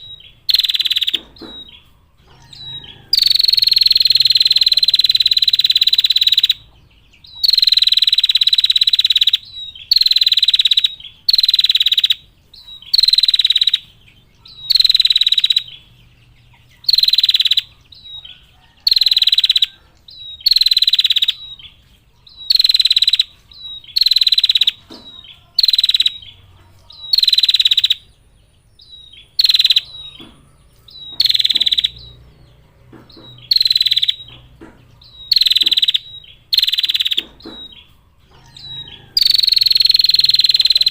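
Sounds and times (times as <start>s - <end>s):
bird rattling trill: 0.0s - 1.8s, 2.4s - 6.6s, 7.4s - 15.8s, 16.8s - 21.6s, 22.3s - 26.3s, 29.3s - 32.2s, 33.2s - 40.9s.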